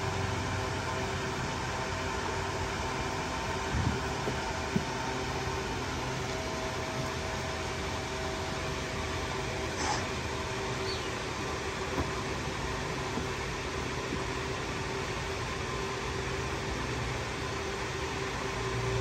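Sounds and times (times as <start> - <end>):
machine hum with hiss: 0.0 - 19.0.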